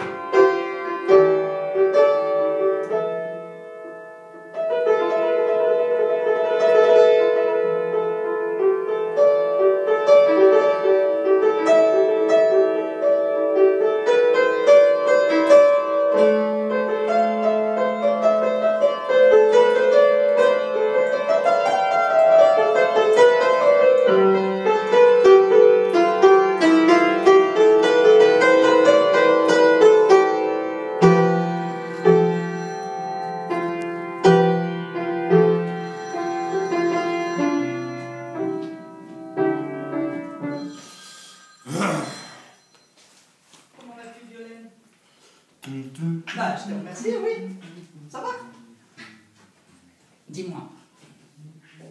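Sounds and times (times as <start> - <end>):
solo piano melody: 0.0 - 42.9.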